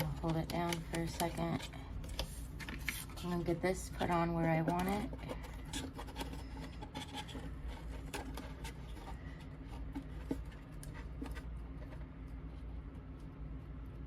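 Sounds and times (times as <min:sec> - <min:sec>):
hands tapping and rubbing box: 0:00.0 - 0:12.1
steady low hum: 0:00.0 - 0:14.0.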